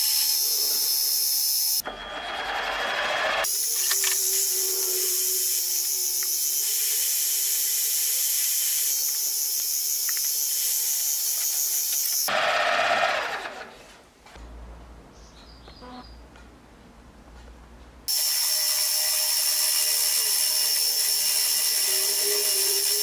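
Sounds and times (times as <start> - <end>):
drill press whirring: 0.0 - 13.7, 18.1 - 23.0.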